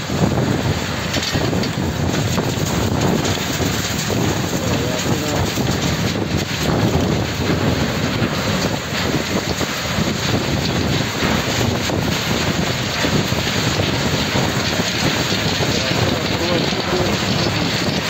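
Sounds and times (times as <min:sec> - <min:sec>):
gravel pouring off conveyor: 0:00.0 - 0:18.0
machine mechanical rumble: 0:00.0 - 0:18.0.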